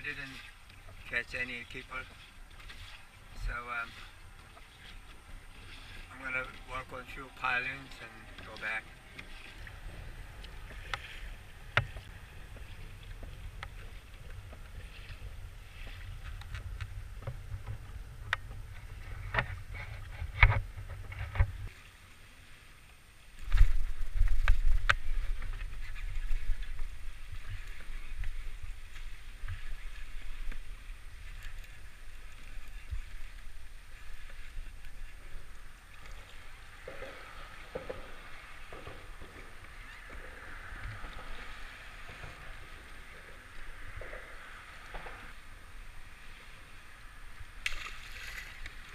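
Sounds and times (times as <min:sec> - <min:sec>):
wind rumbling on microphone: 0:00.0 - 0:21.8, 0:23.4 - 0:48.9
water slapping kayak hull: 0:00.0 - 0:48.9.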